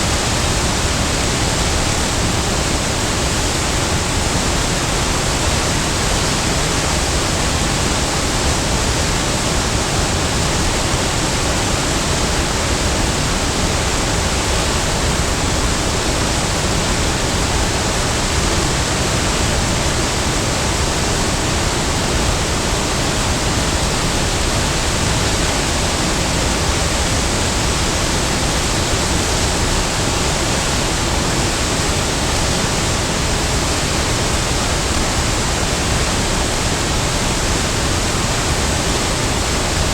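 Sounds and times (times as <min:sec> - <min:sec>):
loud rush of falling water: 0:00.0 - 0:39.9.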